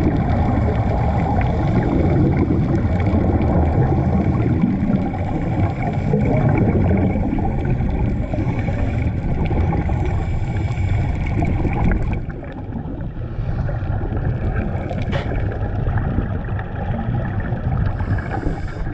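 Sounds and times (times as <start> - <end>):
gurgling regulator bubbles: 0.0 - 18.9
low underwater rumble: 0.0 - 18.9.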